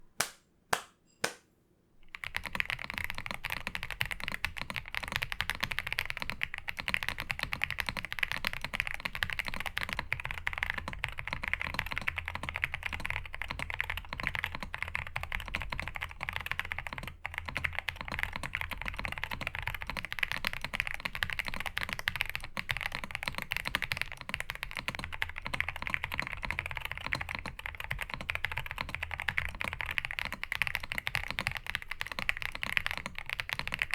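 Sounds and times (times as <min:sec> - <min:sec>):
mechanical keyboard typing: 0:02.1 - 0:33.9.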